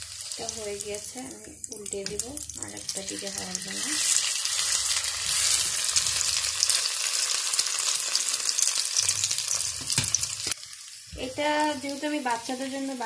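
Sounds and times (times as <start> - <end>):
potato pancake sizzling in oil: 0.0 - 13.0.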